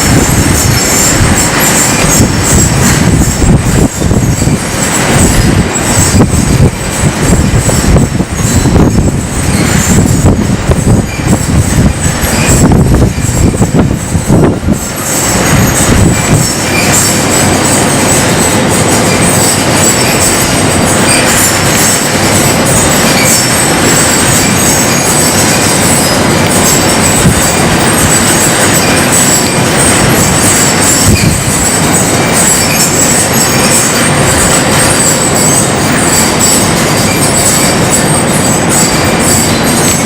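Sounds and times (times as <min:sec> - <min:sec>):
wind gusts buffeting microphone: 0:00.0 - 0:40.0
wind screeching across metal roofing: 0:00.0 - 0:40.0.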